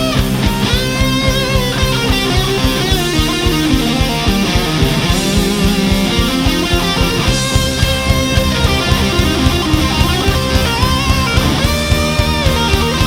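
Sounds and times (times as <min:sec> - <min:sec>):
instrumental rock music: 0:00.0 - 0:13.0.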